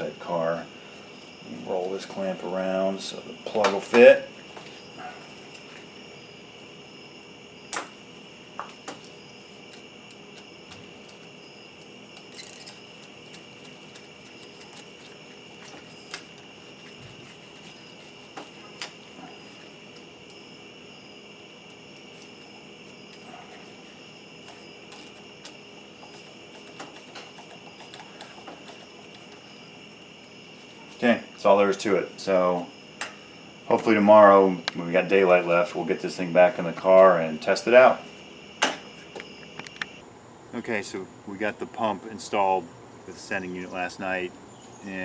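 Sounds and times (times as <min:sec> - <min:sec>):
steady high-pitched whine: 0:00.0 - 0:45.0.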